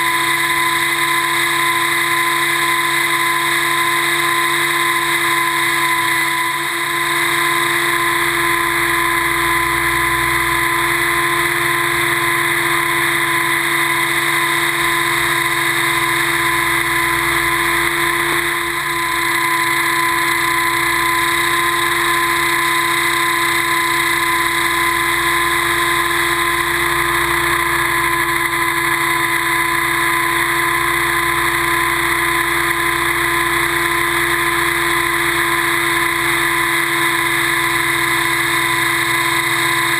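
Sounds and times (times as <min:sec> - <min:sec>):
helicopter rotor whine: 0:00.0 - 0:39.9.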